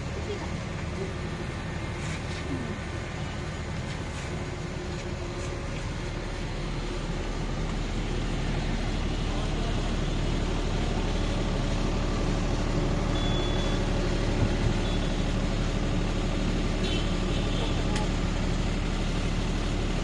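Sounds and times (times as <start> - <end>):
engine-like rumble: 0.0 - 20.0.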